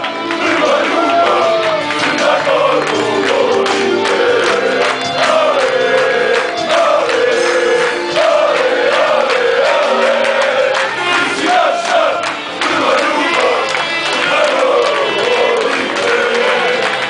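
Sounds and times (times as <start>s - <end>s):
crowd singing a chant: 0.3s - 17.0s.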